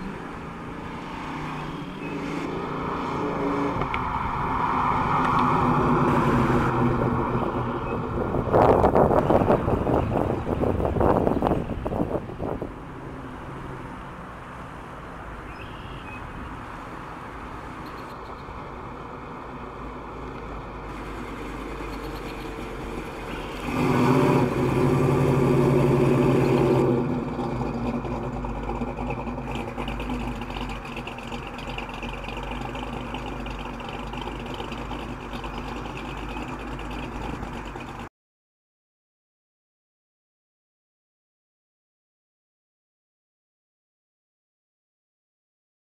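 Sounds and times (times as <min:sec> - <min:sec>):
car engine and exhaust: 0:00.0 - 0:38.1.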